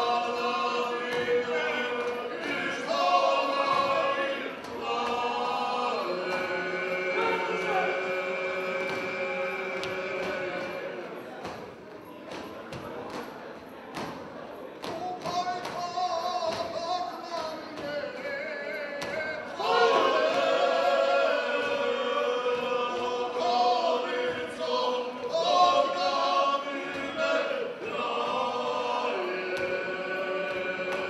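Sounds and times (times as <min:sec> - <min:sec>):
group of voices singing in chorus: 0:00.0 - 0:12.4, 0:14.8 - 0:31.0.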